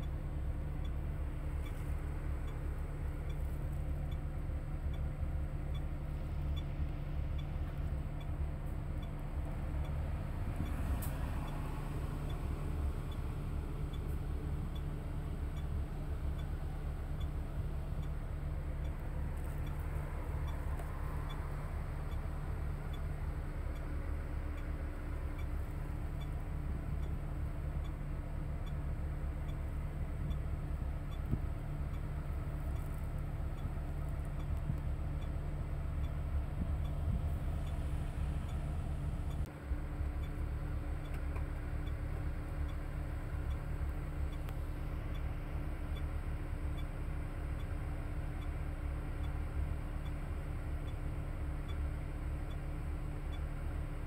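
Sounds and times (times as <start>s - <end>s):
bus engine and road noise: 0.0s - 54.0s.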